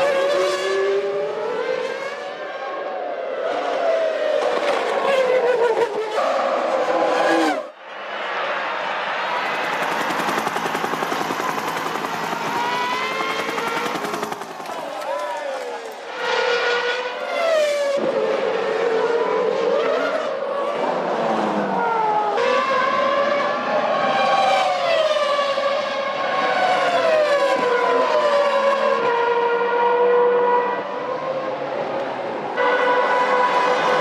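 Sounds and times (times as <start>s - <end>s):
racing car engines at high revs: 0.0s - 7.7s, 9.4s - 34.0s.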